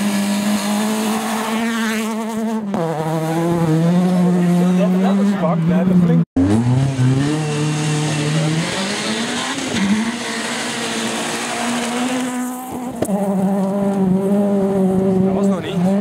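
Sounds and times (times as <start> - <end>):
rally car engine passing: 0.0 - 16.0.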